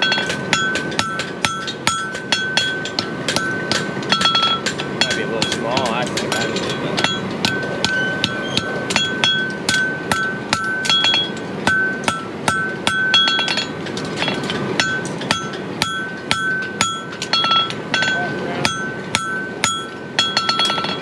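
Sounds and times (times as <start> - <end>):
hammer striking metal on anvil: 0.0 - 21.0.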